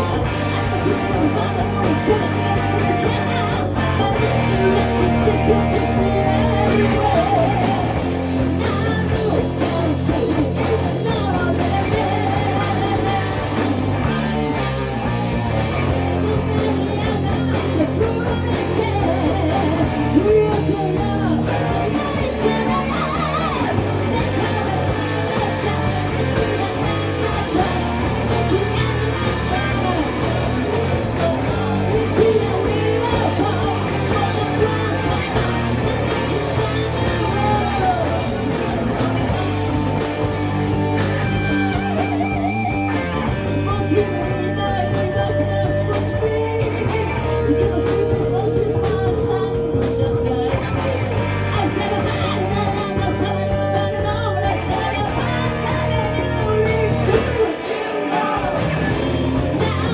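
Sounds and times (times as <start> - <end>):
distorted electric guitar: 0.0 - 59.9
lead vocal singing: 0.0 - 59.9
rock band playing: 0.0 - 59.9.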